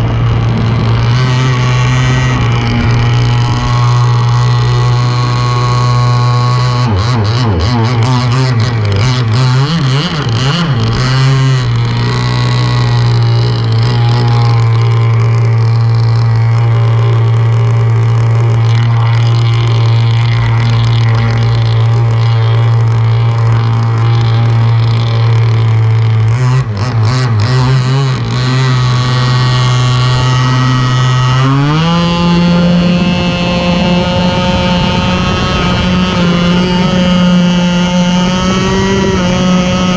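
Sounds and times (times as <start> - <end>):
toy speedboat motor running: 0.0 - 39.9.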